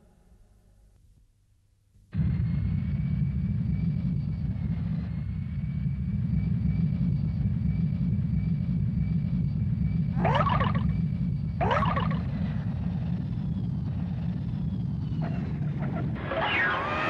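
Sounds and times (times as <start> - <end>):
jet engine rumble and whine: 2.2 - 17.0.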